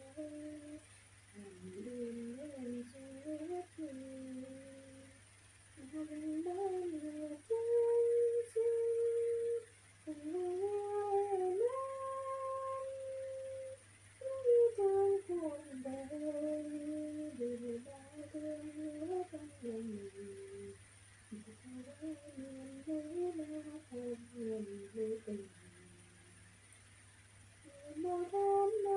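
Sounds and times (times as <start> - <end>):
woman humming a slow tune: 0.0 - 5.2, 5.8 - 26.4, 27.6 - 28.9.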